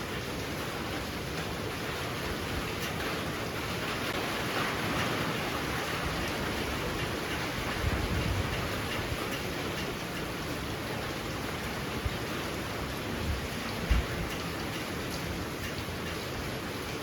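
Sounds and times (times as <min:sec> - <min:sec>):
heavy rain pouring: 0:00.0 - 0:17.0
low rumble of wind: 0:00.0 - 0:17.0.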